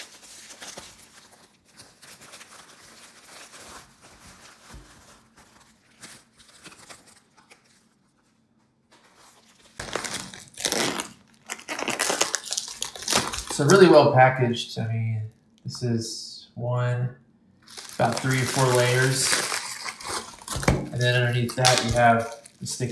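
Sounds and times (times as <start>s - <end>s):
plastic mailer and bubble wrap crinkling: 0.0s - 14.0s, 17.6s - 22.9s.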